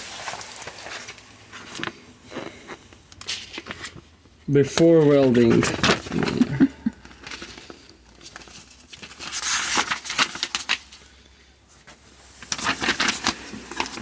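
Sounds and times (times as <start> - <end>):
paper crinkling and rustling: 0.0 - 14.0.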